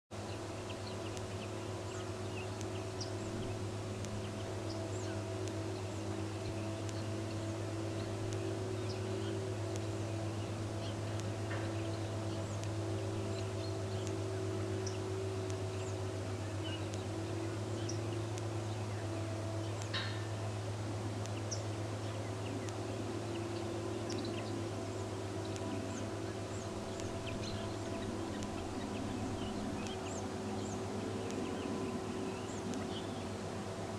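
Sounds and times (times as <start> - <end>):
steady low hum: 0.1 - 33.9.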